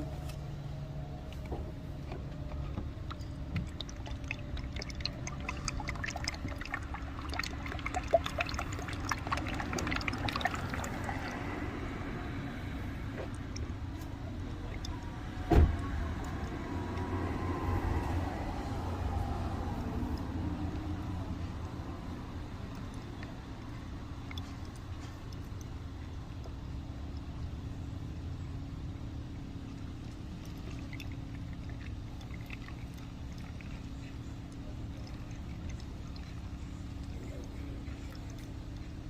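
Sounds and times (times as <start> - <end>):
oil pouring into engine: 0.0 - 39.0.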